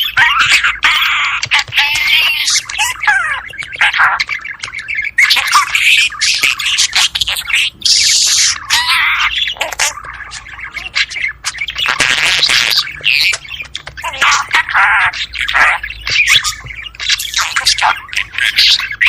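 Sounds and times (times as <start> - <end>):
budgerigars chattering: 0.0 - 19.0.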